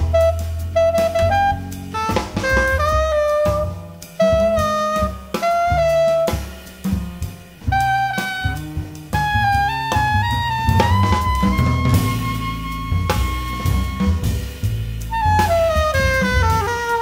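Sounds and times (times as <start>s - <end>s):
drum kit: 0.0s - 17.0s
plucked acoustic bass: 0.0s - 17.0s
tenor saxophone: 0.0s - 17.0s.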